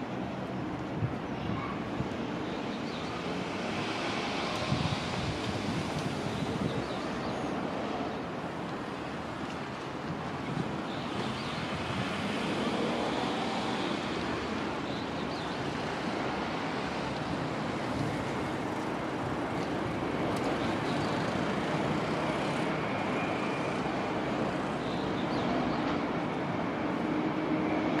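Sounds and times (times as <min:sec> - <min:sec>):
road traffic rushing: 0:02.2 - 0:28.0.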